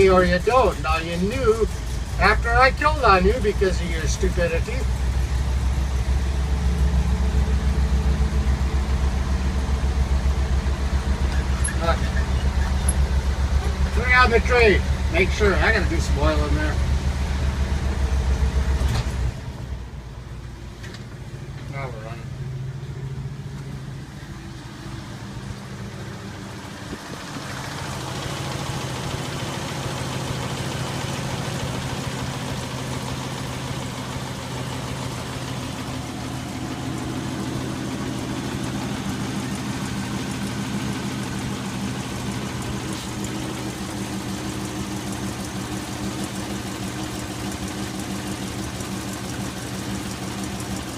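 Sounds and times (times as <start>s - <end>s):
pickup engine idling: 0.0s - 50.9s.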